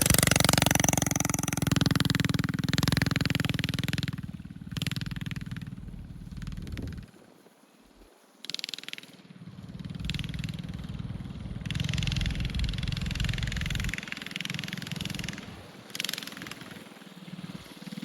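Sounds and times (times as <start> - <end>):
mini bike engine under throttle: 0.0 - 7.2, 8.5 - 18.0.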